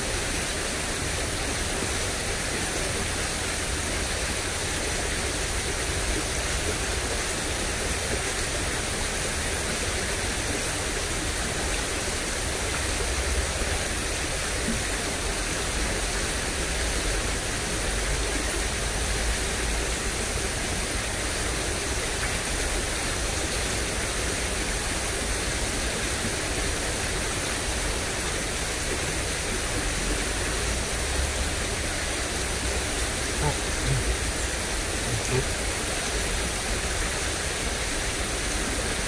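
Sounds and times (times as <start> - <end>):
water rushing in a ditch: 0.0 - 39.0.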